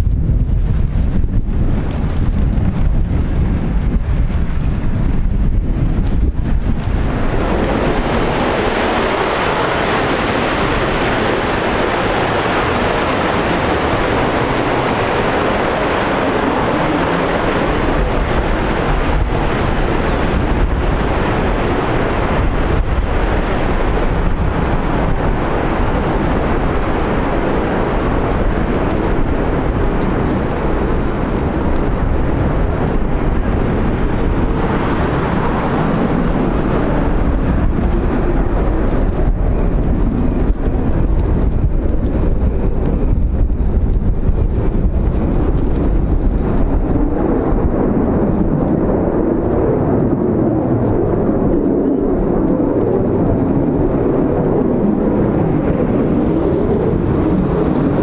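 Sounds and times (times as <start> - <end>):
jet engine crackling: 0.0 - 58.0
jet engines roaring: 0.0 - 58.0.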